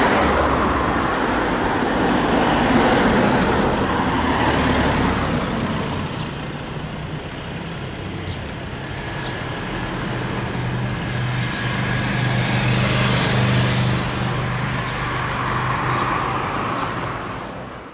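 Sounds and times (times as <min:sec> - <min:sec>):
steady engine hum: 0:00.0 - 0:17.9
traffic driving past: 0:00.0 - 0:17.9.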